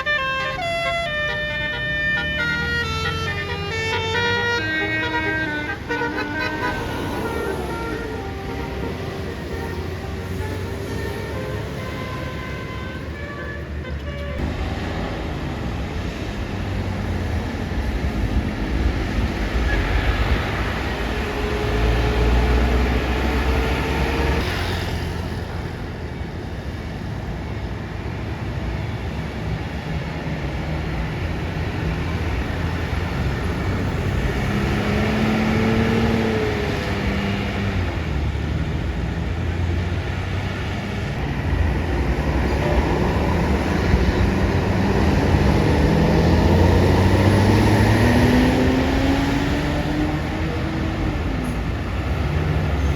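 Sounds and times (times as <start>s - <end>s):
buses and traffic passing: 0.0s - 52.9s.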